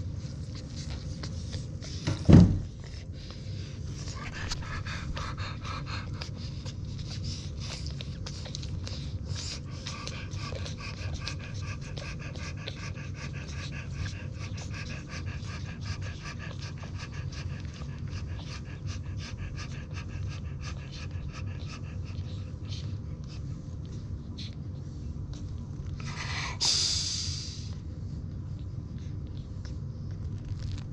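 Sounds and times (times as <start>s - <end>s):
dog panting rapidly: 0.0s - 26.6s.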